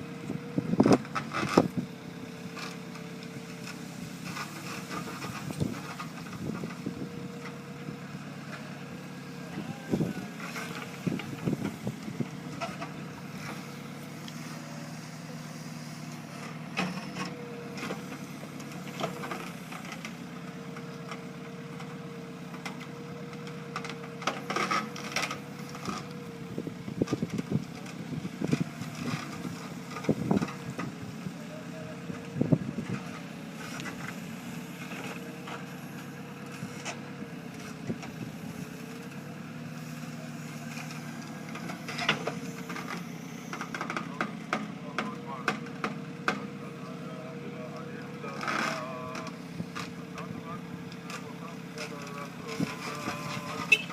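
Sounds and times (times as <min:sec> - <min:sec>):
heavy machine engine running: 0:00.0 - 0:53.9.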